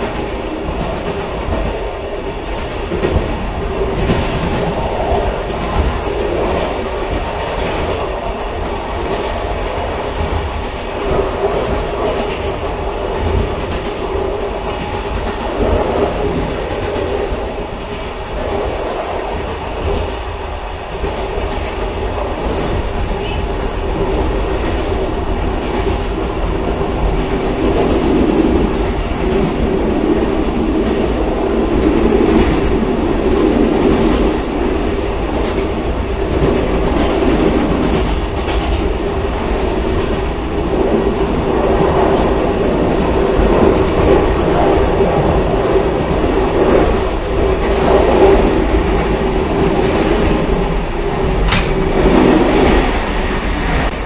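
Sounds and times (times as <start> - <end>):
clickety-clack at rail joints: 0.0 - 54.0
railcar wheels rumbling on track: 0.0 - 54.0.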